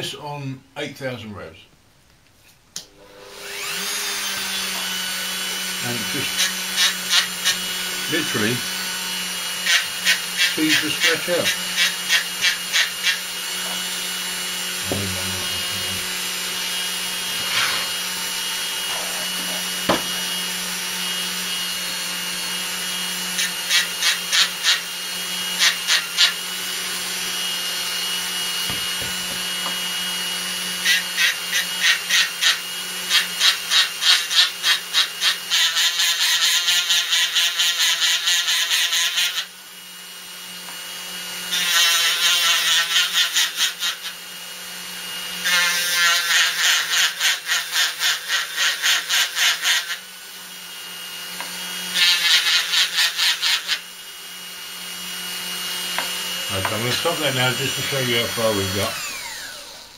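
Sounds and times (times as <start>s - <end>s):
rotary drill motor whine: 3.0s - 59.9s.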